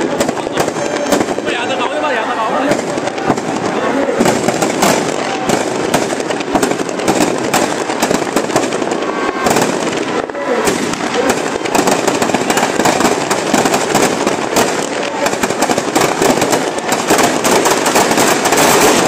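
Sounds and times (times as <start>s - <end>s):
firecrackers cracking and banging: 0.0s - 19.0s.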